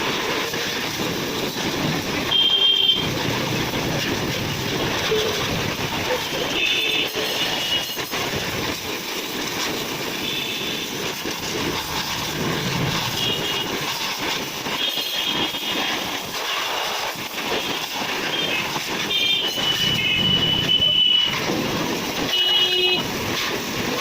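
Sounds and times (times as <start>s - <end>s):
pressure washer spraying: 0.0s - 24.0s.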